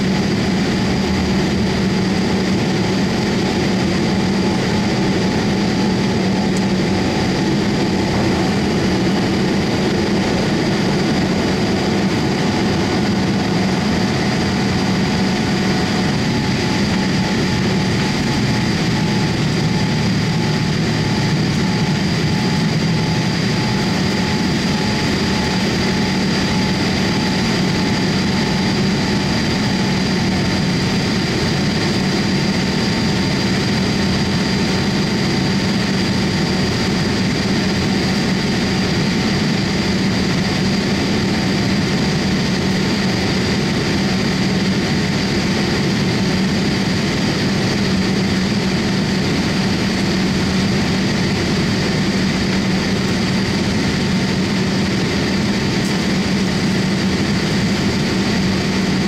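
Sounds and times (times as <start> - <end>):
constant low hum: 0.0 - 59.0
engine and airflow rush: 0.0 - 59.0.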